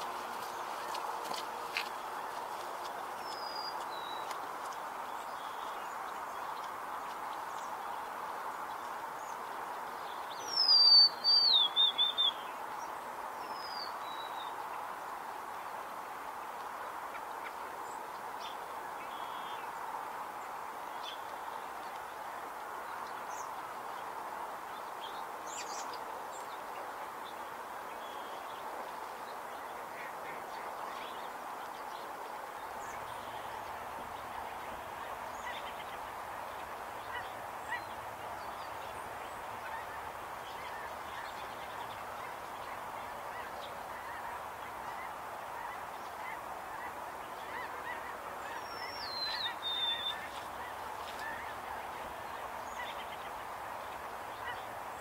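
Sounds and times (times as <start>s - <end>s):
songbird singing: 0.0s - 55.0s
steady background hiss: 0.0s - 55.0s.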